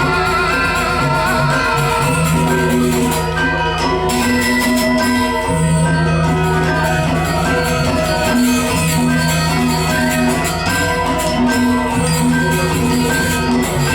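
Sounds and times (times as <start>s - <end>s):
gamelan dance music: 0.0s - 13.9s
metallophones ringing: 0.0s - 13.9s.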